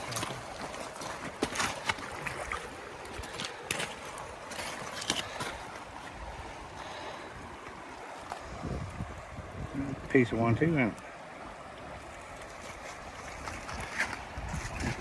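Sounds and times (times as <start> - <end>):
water sloshing and trickling: 0.0 - 15.0.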